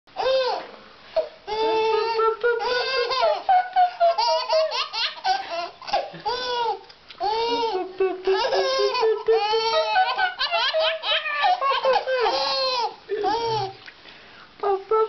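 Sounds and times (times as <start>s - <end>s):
baby laughing: 1.5s - 13.8s.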